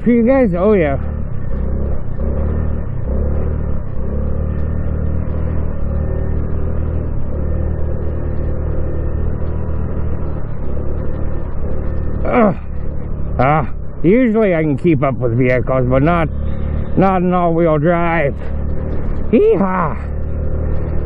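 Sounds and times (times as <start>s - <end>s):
small motorcycle engine running: 0.0s - 21.0s.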